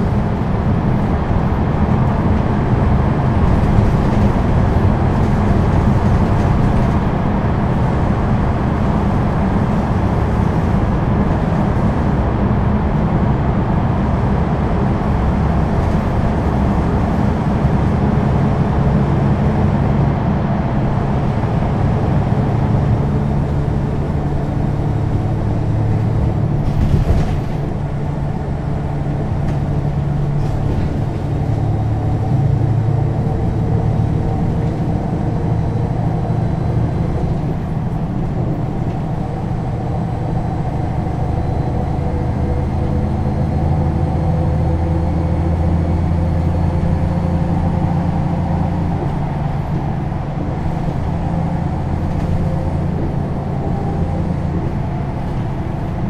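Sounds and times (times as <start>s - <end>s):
bus diesel engine drone: 0.0s - 56.0s
road noise: 0.0s - 56.0s.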